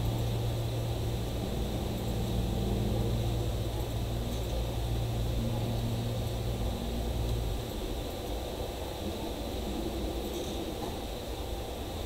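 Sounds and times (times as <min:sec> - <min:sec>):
machine hum with rushing hiss: 0:00.0 - 0:12.0.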